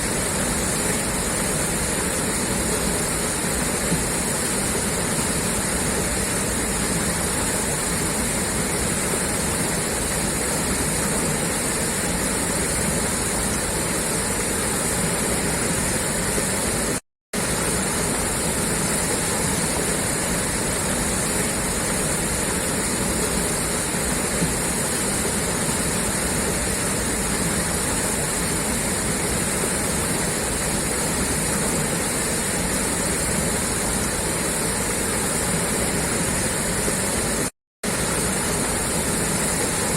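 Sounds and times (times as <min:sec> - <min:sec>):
water gushing from pipe: 0:00.0 - 0:39.9.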